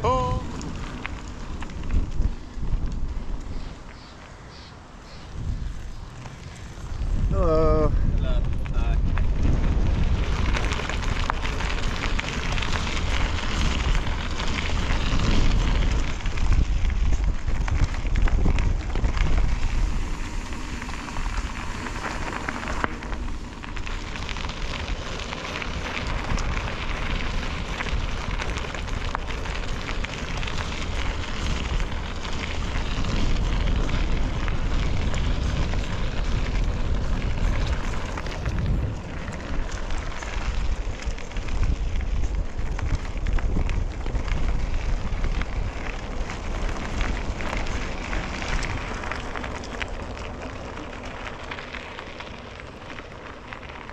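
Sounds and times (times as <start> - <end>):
wind on microphone: 0.0 - 4.1, 4.8 - 51.4
bicycle tyres crunching on trail: 0.0 - 53.9.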